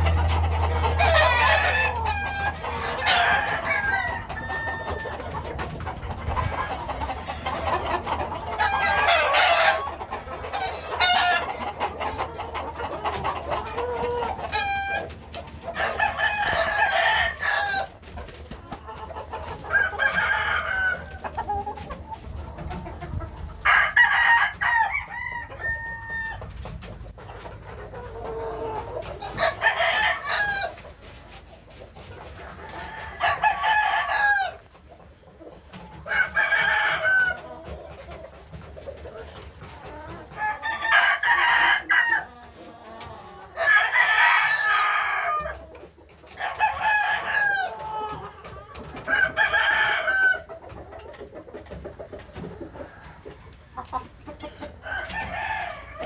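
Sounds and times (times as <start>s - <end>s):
roosters crowing: 0.0s - 26.6s, 27.8s - 31.0s, 32.2s - 34.8s, 35.7s - 38.3s, 39.1s - 50.7s, 52.4s - 56.0s.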